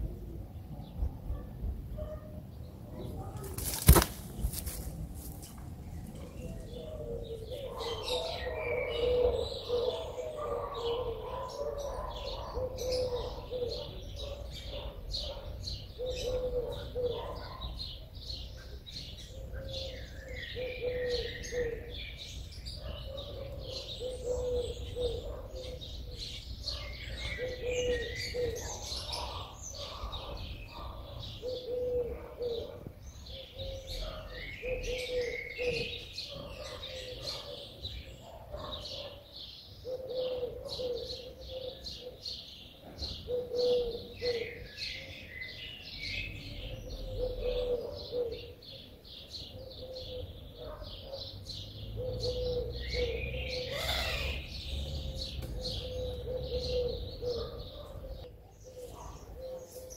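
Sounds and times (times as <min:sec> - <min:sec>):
songbirds chirping: 0:00.0 - 0:59.9
dove cooing: 0:06.0 - 0:39.2, 0:39.8 - 0:59.9.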